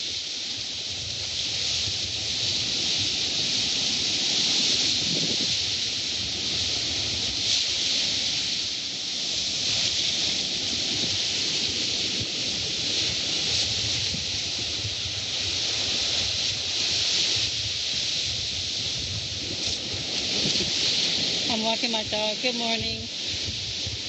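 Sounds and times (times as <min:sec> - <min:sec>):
surf washing onto sand: 0:00.0 - 0:24.0.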